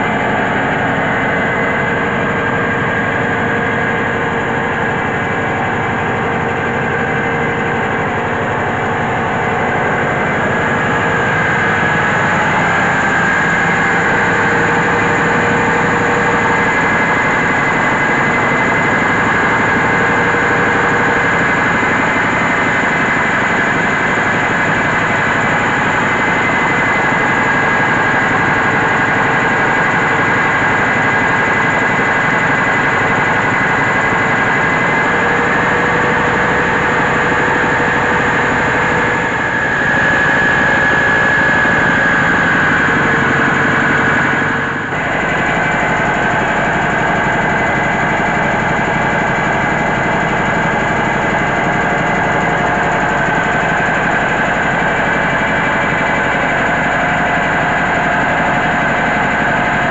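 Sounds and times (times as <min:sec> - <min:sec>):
steady high whine: 0:00.0 - 0:59.9
rice mill mechanical din: 0:02.1 - 0:59.9.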